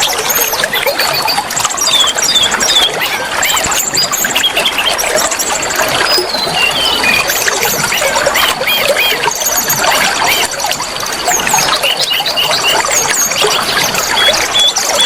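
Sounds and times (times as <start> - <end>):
birdsong whistles and trills: 0.0 - 15.0
flowing water rushing: 0.0 - 15.0.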